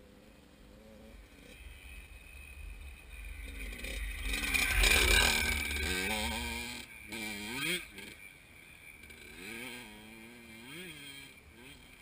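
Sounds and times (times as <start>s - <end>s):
dirt bike engine passing: 0.0s - 12.0s.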